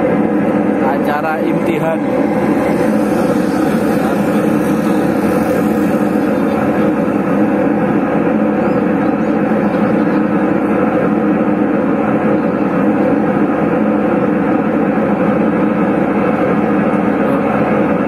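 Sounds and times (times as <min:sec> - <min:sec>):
loud mechanical drone: 0:00.0 - 0:18.0.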